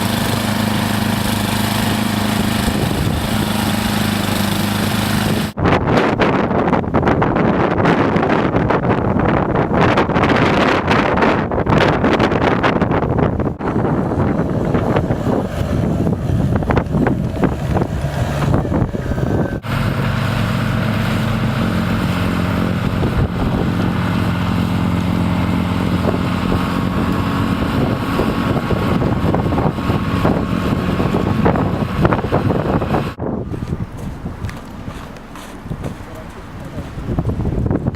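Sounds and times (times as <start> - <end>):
low engine hum: 0.0 - 37.9
wind buffeting microphone: 0.0 - 37.9.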